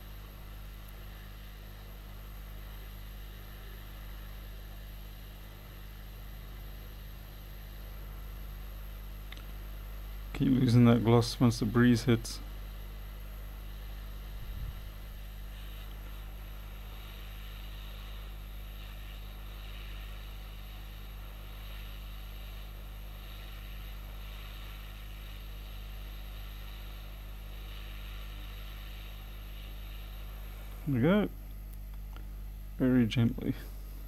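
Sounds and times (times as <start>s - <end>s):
hot air blower blowing: 0.0s - 9.4s, 10.3s - 31.3s
low electrical hum: 0.0s - 34.0s.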